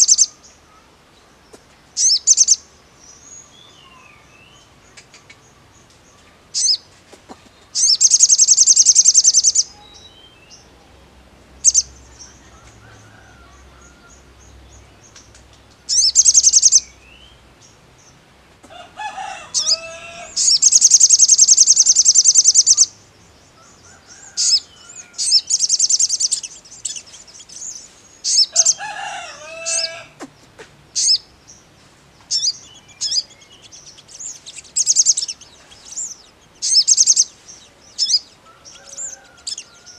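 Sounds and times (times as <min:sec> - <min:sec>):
bird singing buzzy trills: 0:00.0 - 0:00.9, 0:02.0 - 0:05.9, 0:06.5 - 0:06.8, 0:07.7 - 0:18.3, 0:19.4 - 0:39.9.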